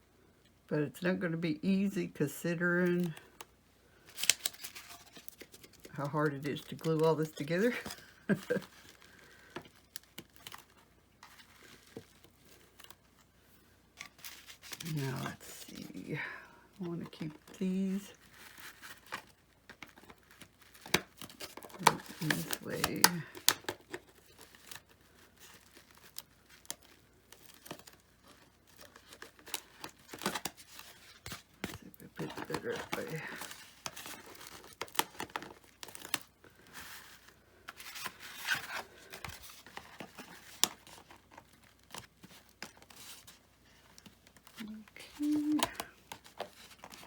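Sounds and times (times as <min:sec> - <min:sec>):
rustling of foam-board pieces: 0:02.9 - 0:47.0.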